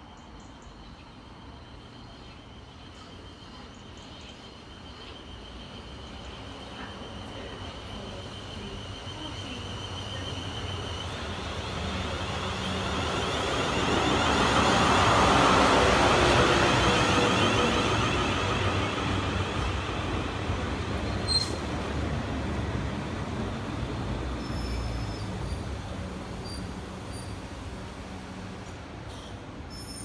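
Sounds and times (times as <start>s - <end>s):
passenger train passing: 0.0s - 30.0s.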